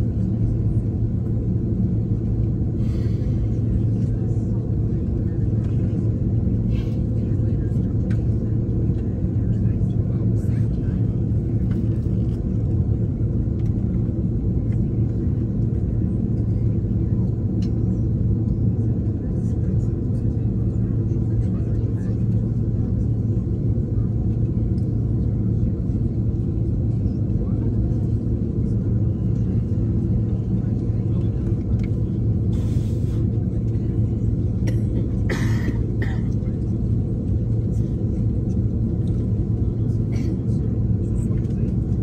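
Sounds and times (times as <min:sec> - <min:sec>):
aircraft cabin low rumble: 0:00.0 - 0:42.0.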